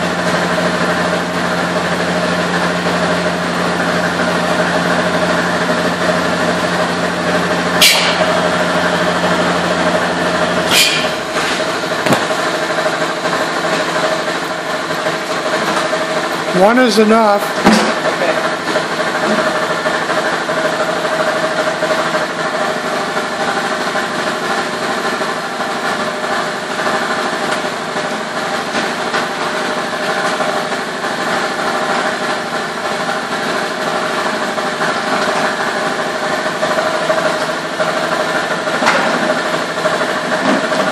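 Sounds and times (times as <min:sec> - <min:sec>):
industrial machine humming: 0:00.0 - 0:40.9.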